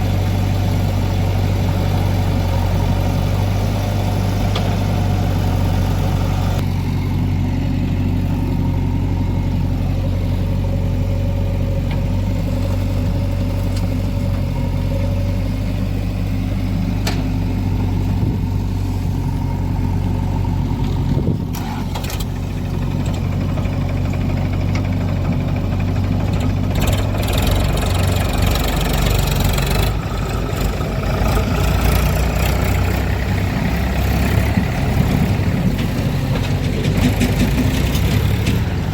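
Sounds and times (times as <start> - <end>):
backhoe diesel engine working: 0.0 - 38.9.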